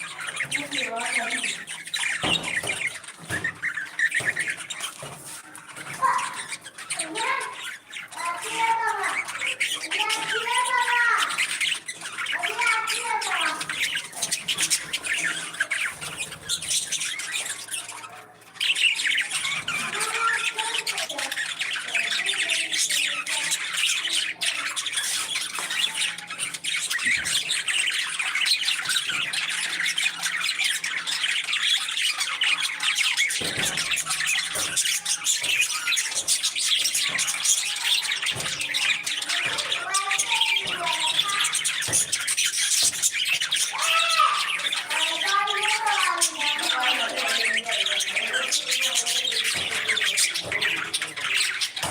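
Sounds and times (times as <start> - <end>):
parrots chattering and squawking: 0.0 - 51.9.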